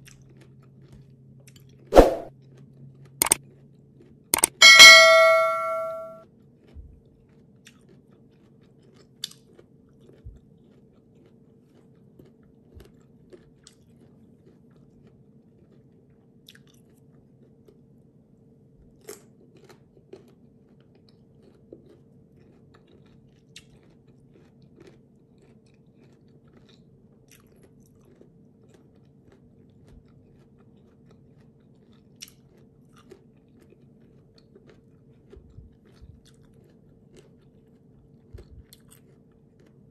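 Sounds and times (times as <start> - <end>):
crunching and chewing mango: 0.0 - 1.8, 2.4 - 4.2, 6.5 - 39.9.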